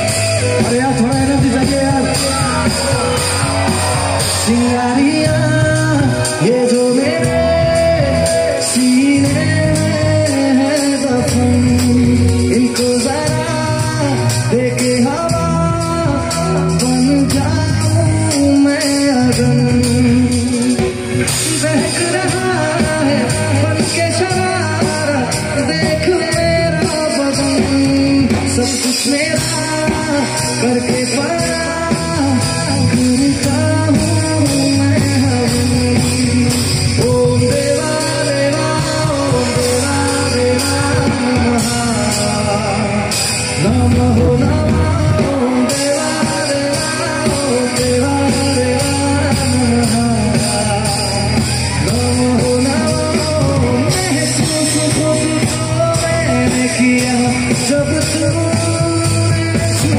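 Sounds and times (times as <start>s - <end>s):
loud instrumental accompaniment: 0.0s - 59.9s
man singing into microphone: 0.0s - 59.9s.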